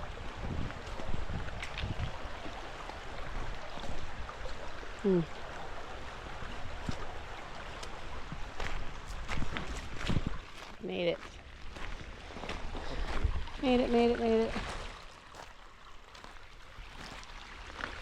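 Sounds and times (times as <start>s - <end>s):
creek water over rocks: 0.0s - 18.0s.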